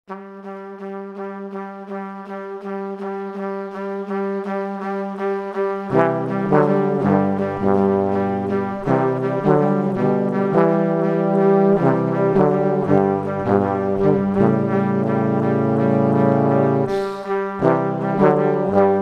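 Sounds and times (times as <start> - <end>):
brass instruments playing chords: 0.1 - 19.0.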